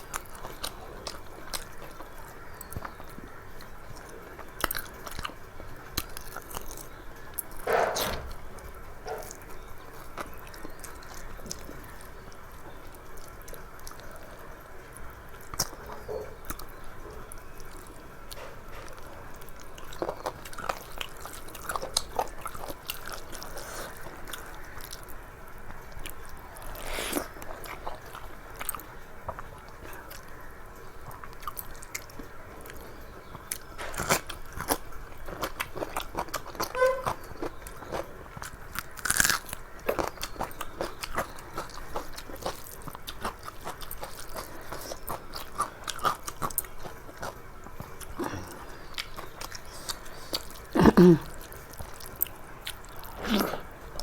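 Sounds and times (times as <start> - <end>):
chewing with crunchy bites: 0.0 - 54.0.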